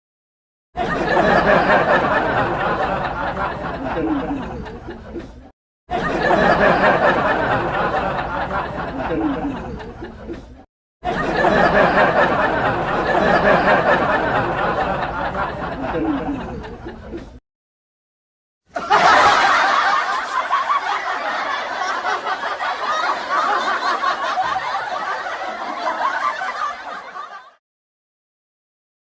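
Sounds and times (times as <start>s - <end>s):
canned audience laughter: 0.8s - 17.4s, 18.7s - 27.6s.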